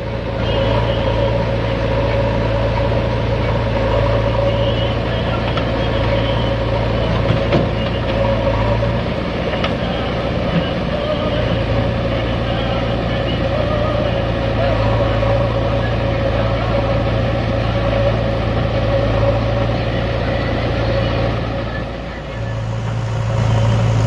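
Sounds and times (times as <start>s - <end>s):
tractor diesel engine drone: 0.0s - 24.0s.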